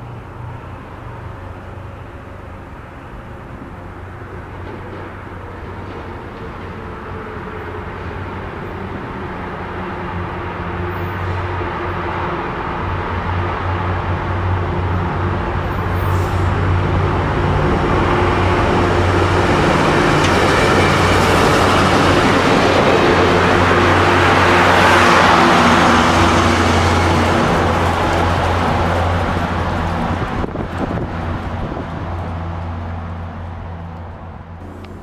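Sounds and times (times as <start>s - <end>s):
diesel locomotive drone: 0.0s - 35.0s
train wheels rumbling on rails: 0.0s - 35.0s.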